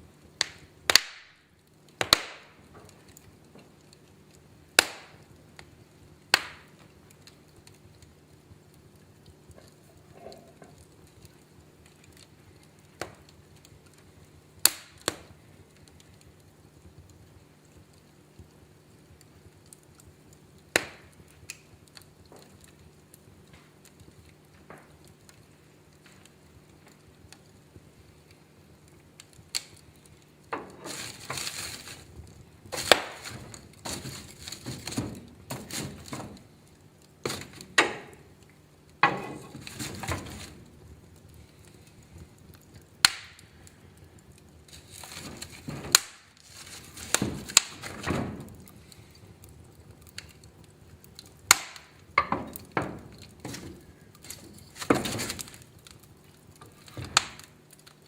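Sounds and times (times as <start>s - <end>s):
fire hissing flare-ups: 0.0s - 58.0s
fire popping: 0.0s - 58.0s
wood fire crackling: 0.0s - 58.0s.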